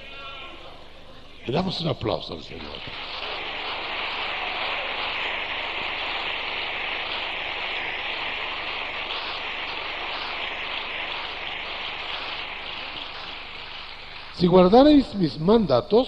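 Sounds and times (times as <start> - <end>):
congregation applauding: 2.5 - 15.6.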